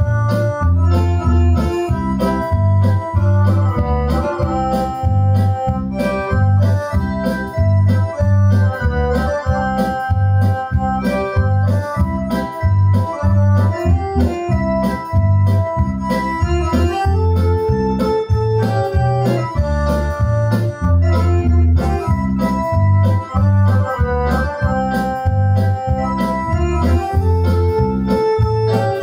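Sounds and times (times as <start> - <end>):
accordion melody: 0.0 - 29.0
bass line: 0.0 - 29.0.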